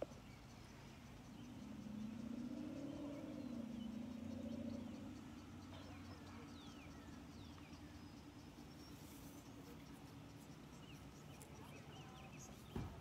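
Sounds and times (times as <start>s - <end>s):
faint high insect ticking: 0.0s - 13.0s.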